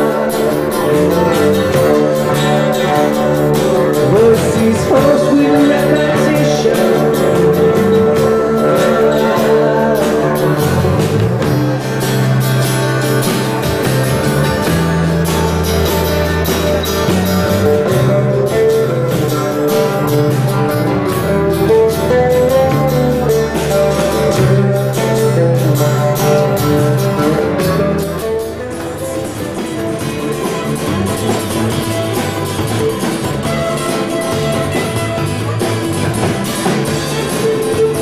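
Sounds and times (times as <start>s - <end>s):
bass: 0.0s - 38.0s
drums with steady beat: 0.0s - 38.0s
guitar: 0.0s - 38.0s.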